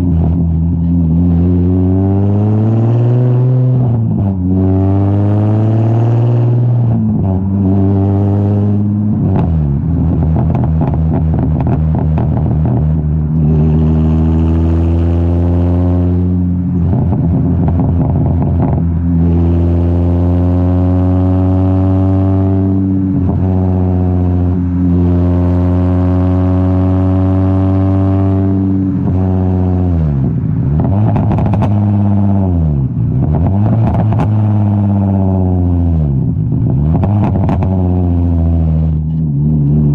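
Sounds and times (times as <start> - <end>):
car exhaust accelerating through gears: 0.0 - 39.9.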